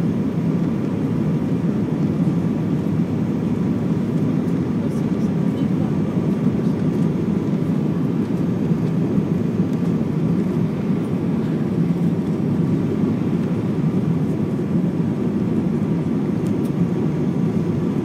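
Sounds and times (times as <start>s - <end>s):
airliner cabin engine rush: 0.0s - 18.0s.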